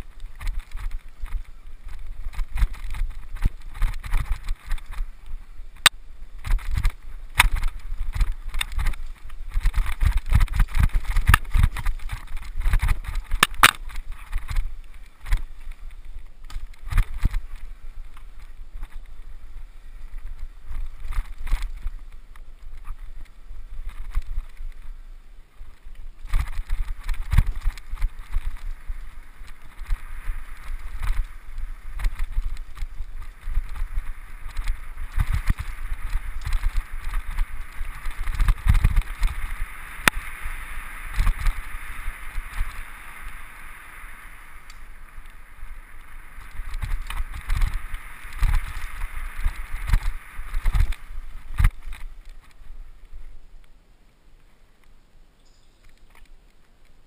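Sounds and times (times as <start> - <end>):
bike rattling over roots: 0.0 - 25.0, 25.6 - 53.2
bike tyres and wind rumble: 0.0 - 57.0.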